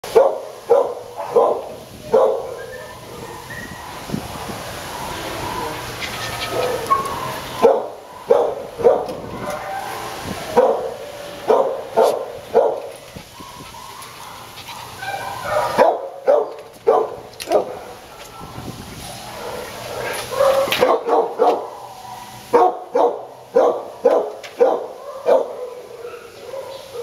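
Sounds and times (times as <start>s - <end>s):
dogs barking: 0.0s - 18.6s, 19.2s - 27.0s.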